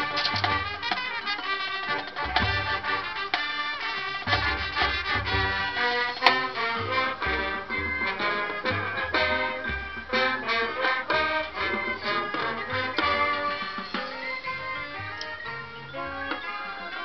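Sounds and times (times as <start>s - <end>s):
marching band brass melody: 0.0s - 17.0s
percussion: 0.0s - 17.0s.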